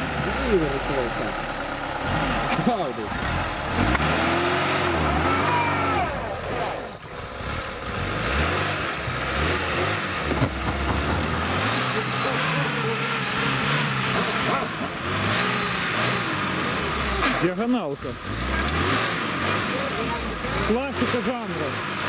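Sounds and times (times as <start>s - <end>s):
car engine revving under load: 0.0s - 22.0s.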